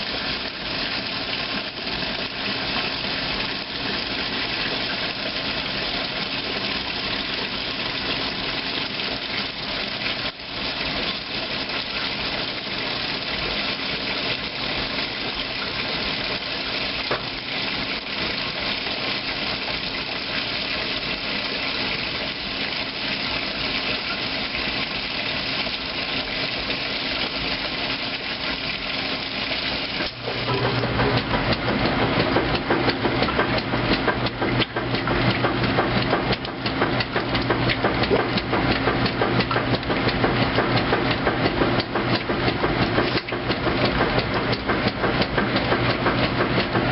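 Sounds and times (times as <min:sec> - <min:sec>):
motor hum: 0:00.0 - 0:46.9
water swishing in washing machine: 0:00.0 - 0:46.9.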